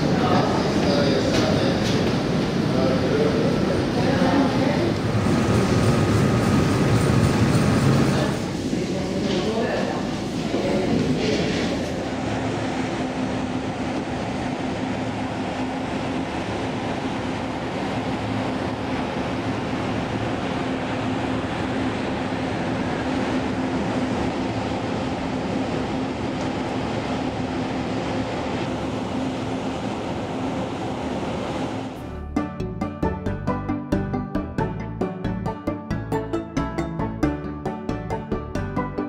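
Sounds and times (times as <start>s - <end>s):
ship machinery rumbling: 0.0s - 39.0s
ventilation fans humming: 0.0s - 39.0s.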